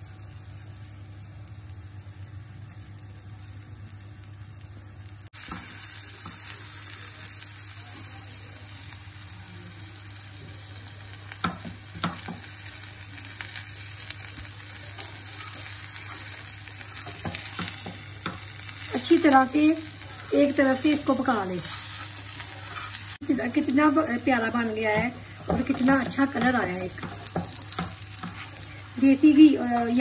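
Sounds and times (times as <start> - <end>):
flatbread sizzling in butter: 0.0 - 30.0.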